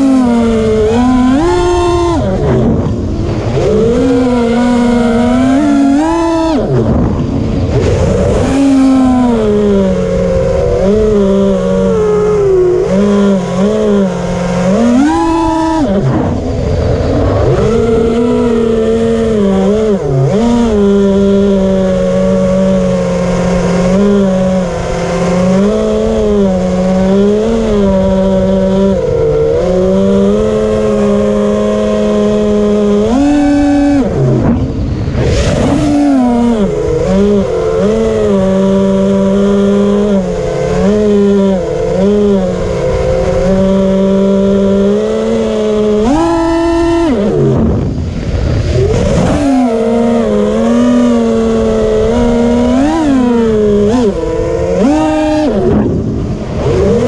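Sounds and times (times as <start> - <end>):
quadcopter motors buzzing whine: 0.0 - 57.0.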